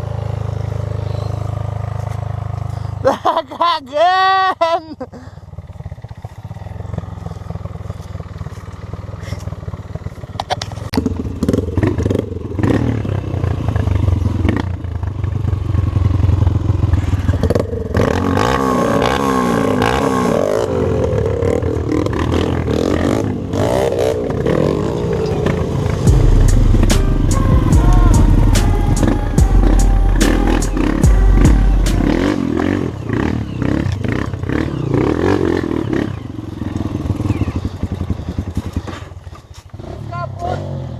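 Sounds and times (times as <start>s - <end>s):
dirt bike engine revving: 5.2s - 40.9s.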